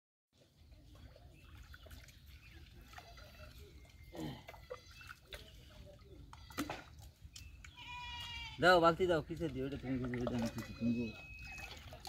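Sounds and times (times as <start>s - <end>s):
water sloshing and trickling: 0.4s - 12.0s.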